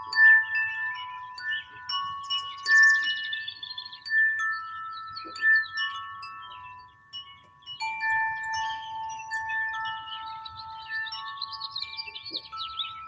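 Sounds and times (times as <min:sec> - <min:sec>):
chimes ringing: 0:00.0 - 0:13.0.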